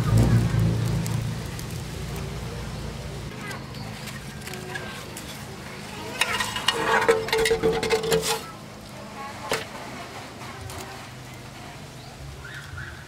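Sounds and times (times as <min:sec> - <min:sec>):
metal sheet scraping over leaves: 0:00.0 - 0:11.8.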